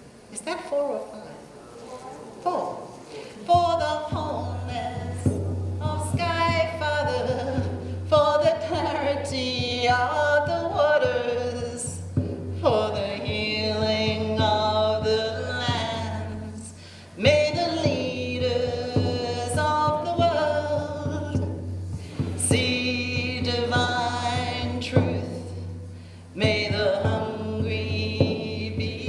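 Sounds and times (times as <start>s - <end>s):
steady low hum: 1.2s - 29.0s
voices singing slow song: 3.1s - 29.0s.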